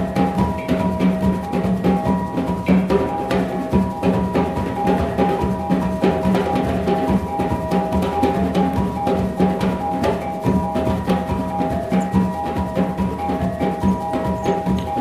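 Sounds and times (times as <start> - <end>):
hanging gongs ringing: 0.0 - 15.0
steady drumming: 0.0 - 15.0.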